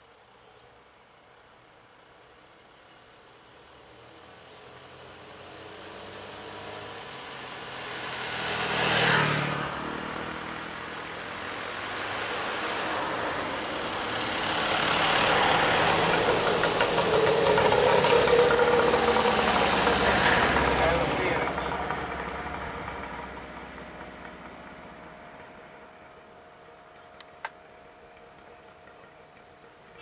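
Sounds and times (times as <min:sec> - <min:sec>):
tyres on road: 0:00.0 - 0:30.0
vehicle engines passing: 0:03.6 - 0:30.0.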